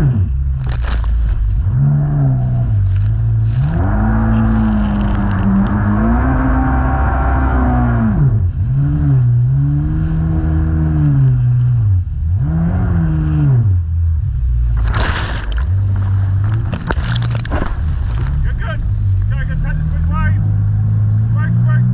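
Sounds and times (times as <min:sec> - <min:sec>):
jet ski engine revving: 0:01.5 - 0:21.9.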